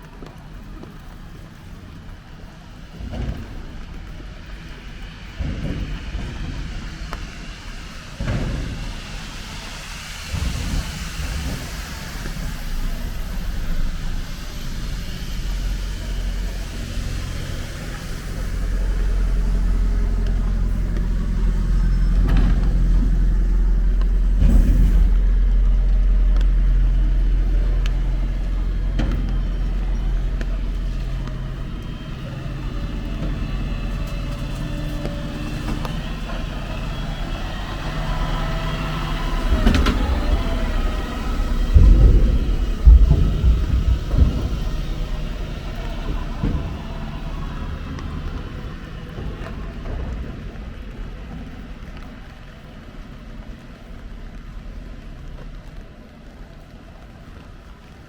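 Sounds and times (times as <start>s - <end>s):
heavy vehicle engine rumbling: 0.0s - 58.0s
rain hissing: 0.0s - 58.0s
tyres on wet road: 0.0s - 58.0s.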